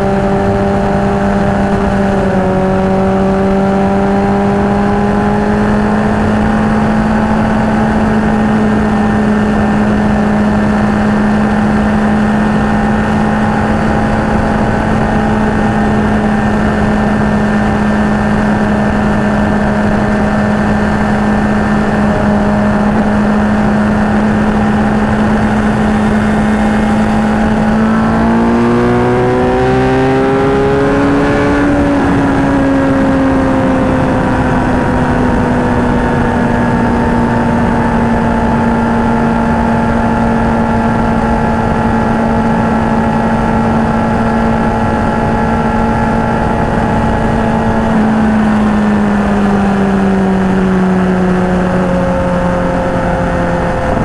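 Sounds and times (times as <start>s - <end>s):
motorcycle engine cruising: 0.0s - 54.0s
wind noise: 0.0s - 54.0s.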